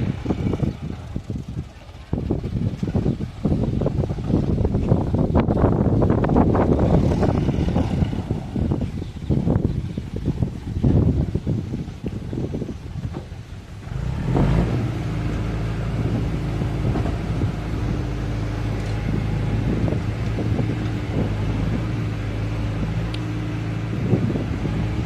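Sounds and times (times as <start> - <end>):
excavator engine humming: 0.0 - 25.0.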